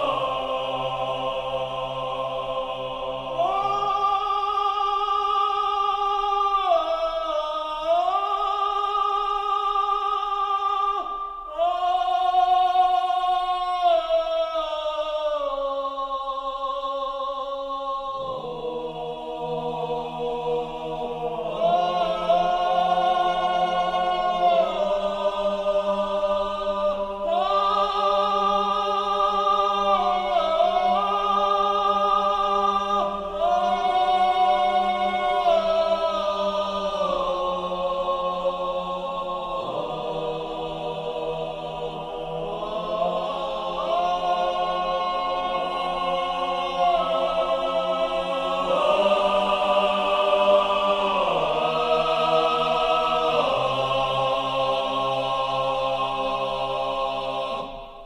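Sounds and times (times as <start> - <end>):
choral voices holding chords: 0.0 - 58.0.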